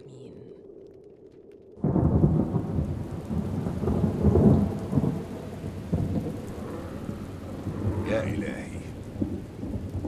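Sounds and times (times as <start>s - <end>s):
heavy rain: 1.8s - 10.0s
thunder rumbling: 1.8s - 10.0s.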